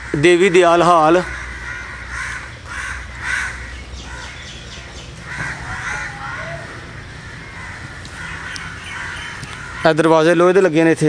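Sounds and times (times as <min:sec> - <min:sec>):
low steady rumble: 0:00.0 - 0:09.8
crows cawing: 0:00.0 - 0:10.5.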